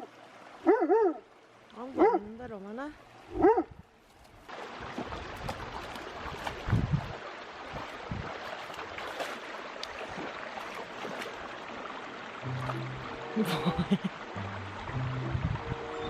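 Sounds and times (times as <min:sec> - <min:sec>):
water rushing and splashing: 0:00.0 - 0:03.4, 0:04.2 - 0:16.0.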